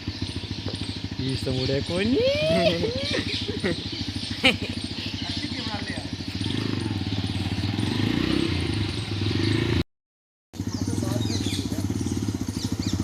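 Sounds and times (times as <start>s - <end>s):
motorcycle engine running: 0.0s - 9.8s, 10.6s - 13.0s.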